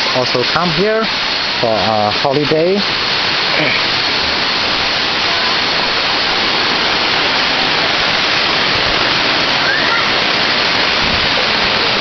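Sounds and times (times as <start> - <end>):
waterfall rushing over boulders: 0.0 - 12.0.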